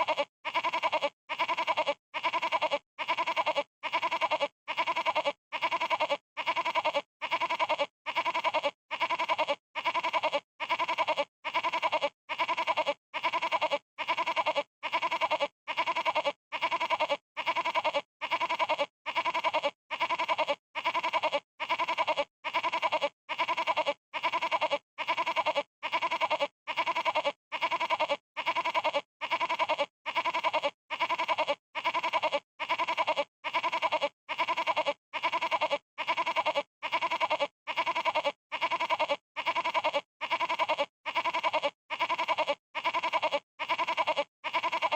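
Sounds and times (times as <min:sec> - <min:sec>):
goat bleating: 0:00.0 - 0:44.9.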